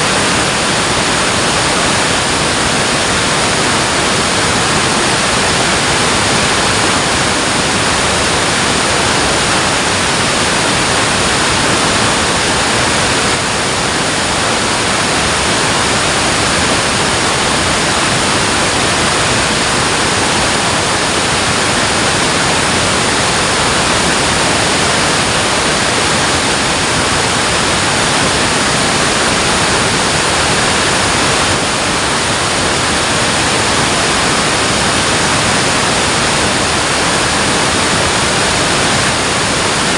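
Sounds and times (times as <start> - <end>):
water roaring through a dam: 0.0 - 39.9.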